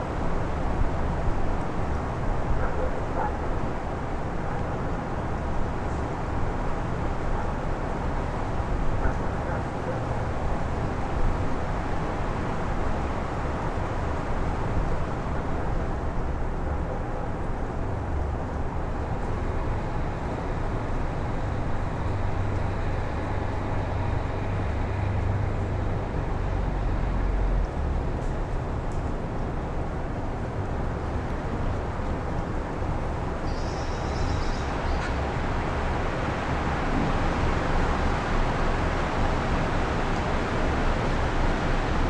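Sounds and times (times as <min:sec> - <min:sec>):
low rumble of gusts: 0:00.0 - 0:42.0.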